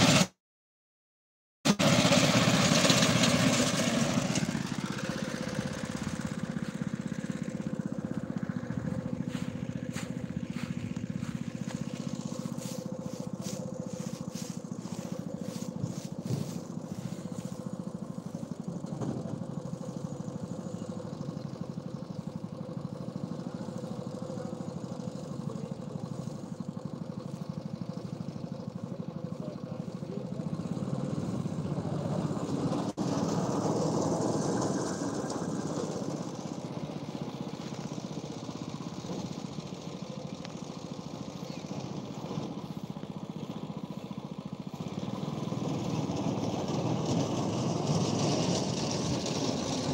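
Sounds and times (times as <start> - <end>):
mowing machine engine running: 0.0 - 0.3, 1.7 - 49.9.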